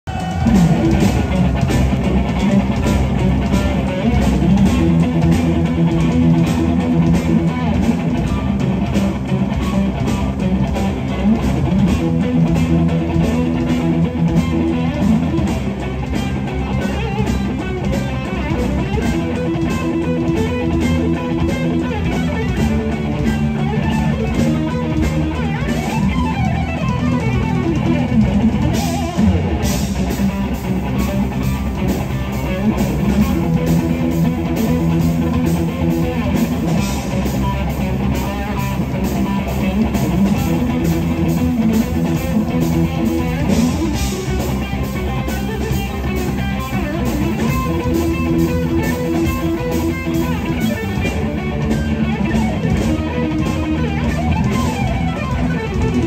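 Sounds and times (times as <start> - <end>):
electric guitar riff: 0.0 - 56.0
drums steady beat: 0.1 - 56.0.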